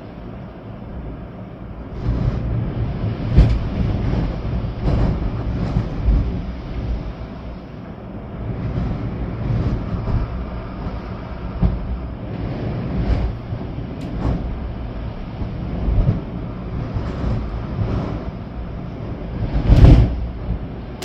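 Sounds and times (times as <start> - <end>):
rain: 0.0 - 21.0
storm wind gusting: 0.0 - 21.0
wind buffeting microphone: 0.0 - 21.0.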